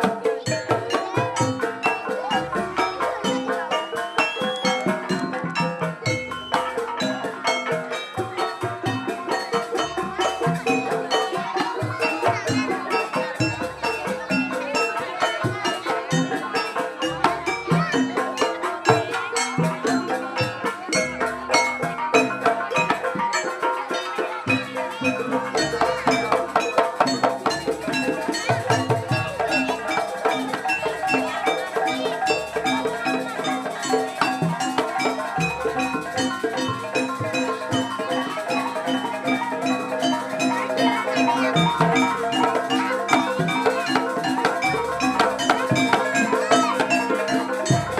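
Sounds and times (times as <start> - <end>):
drums: 0.0 - 47.9
tuned struck percussion: 0.0 - 47.9.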